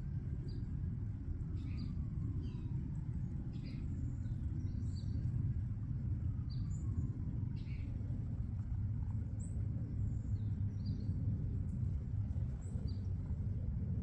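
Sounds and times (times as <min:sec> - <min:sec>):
low outdoor rumble: 0:00.0 - 0:14.0
small songbirds chirping: 0:00.0 - 0:14.0.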